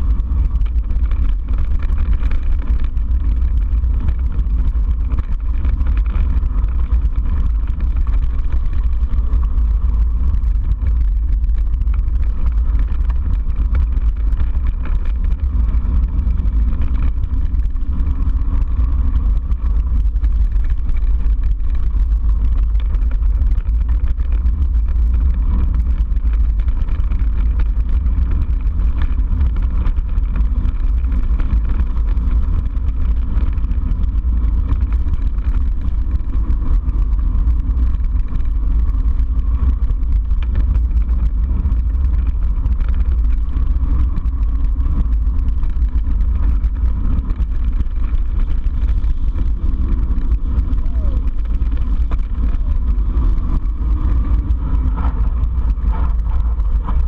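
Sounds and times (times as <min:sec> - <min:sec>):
bike rattling: 0:00.0 - 0:57.0
wind buffeting microphone: 0:00.0 - 0:57.0.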